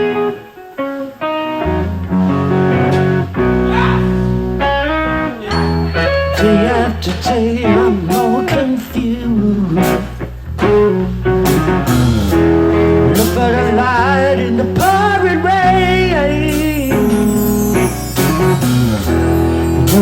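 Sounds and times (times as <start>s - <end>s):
bending lead guitar line: 0.0s - 20.0s
guitars: 0.0s - 20.0s
steady bass: 1.7s - 20.0s.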